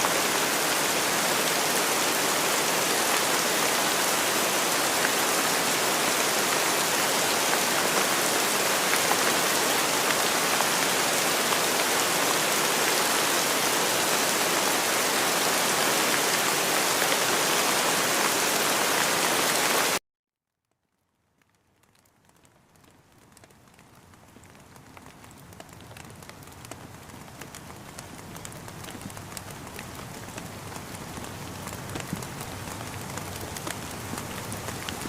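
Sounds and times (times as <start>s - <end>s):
steady rain falling: 0.0s - 20.0s, 20.8s - 35.0s.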